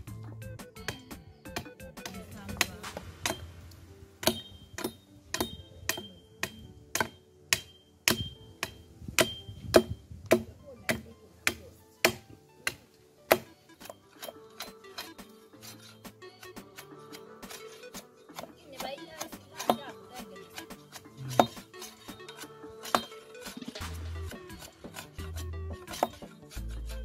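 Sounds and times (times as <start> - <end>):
background music: 0.0 - 27.0
machete chopping wooden pole: 0.8 - 3.6, 4.2 - 27.0.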